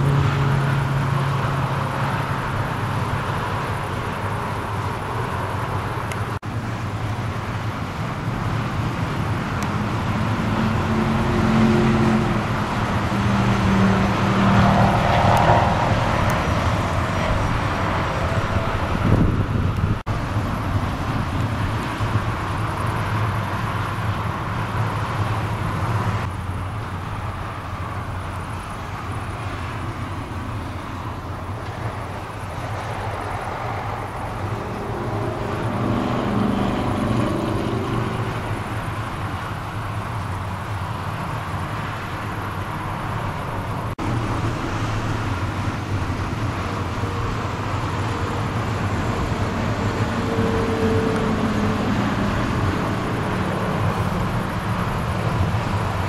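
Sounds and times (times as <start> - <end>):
motorway traffic passing: 0.0 - 56.0
car engine passing: 8.7 - 56.0.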